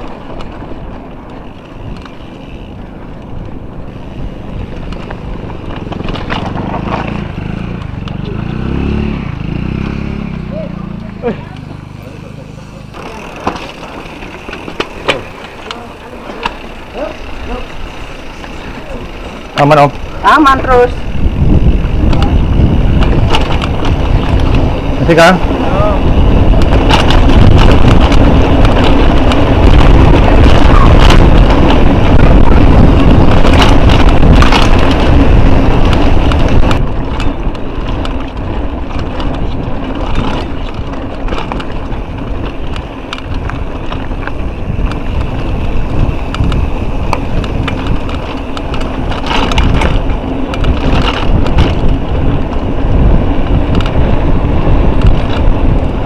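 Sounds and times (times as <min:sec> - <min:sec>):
bike knocks and rattles: 0:00.0 - 0:10.2, 0:11.2 - 0:56.0
wind buffeting microphone: 0:00.0 - 0:56.0.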